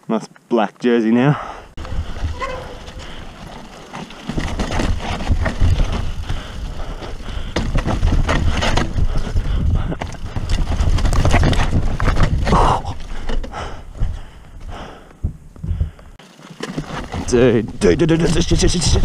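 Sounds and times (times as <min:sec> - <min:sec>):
bike rattling over rocks: 0:01.8 - 0:14.5, 0:15.3 - 0:19.0.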